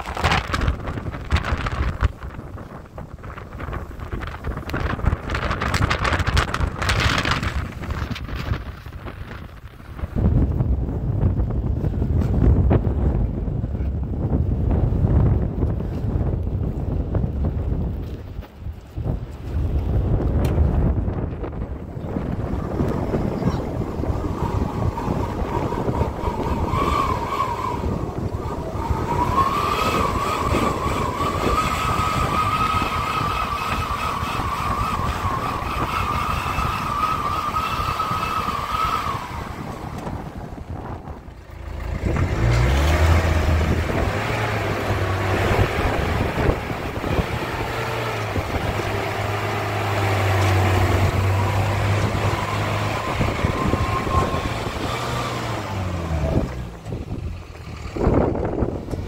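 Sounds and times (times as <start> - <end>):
truck engine whining and rumbling: 0.0 - 59.0.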